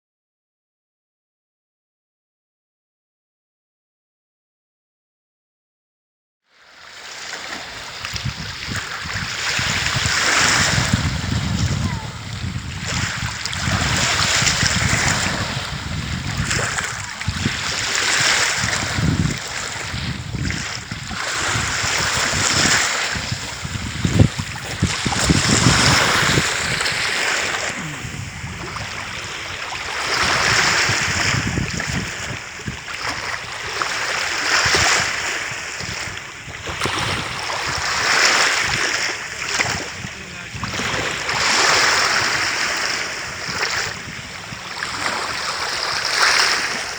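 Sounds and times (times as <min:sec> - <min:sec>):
small waves washing on shore: 0:06.6 - 0:46.9
wind gusting on microphone: 0:07.6 - 0:46.9.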